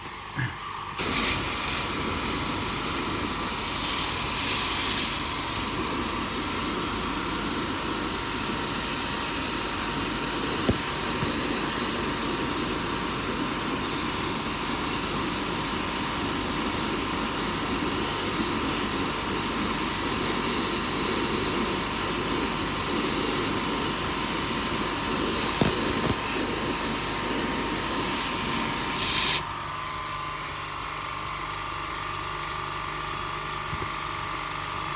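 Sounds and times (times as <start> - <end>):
faint steady whine: 0.0 - 29.4
pressure washer spraying water: 1.0 - 29.4.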